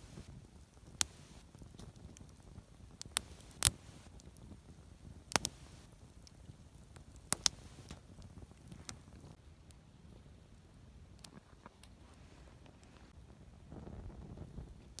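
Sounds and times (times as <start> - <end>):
campfire pops: 0.0 - 9.8, 11.1 - 12.0, 12.6 - 15.0
low fire hiss: 0.0 - 15.0.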